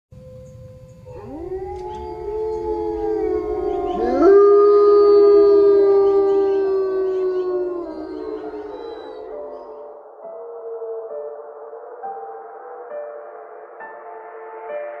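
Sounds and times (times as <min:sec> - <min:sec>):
wolves howling: 0:01.0 - 0:13.5.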